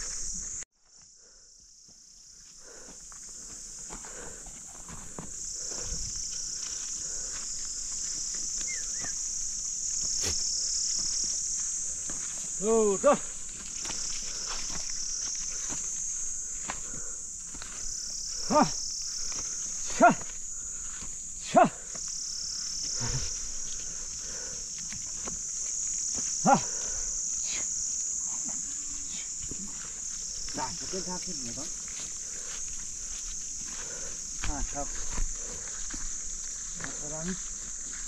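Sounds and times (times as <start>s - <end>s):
insects droning: 0.0s - 38.0s
footsteps on stony path: 1.7s - 38.0s.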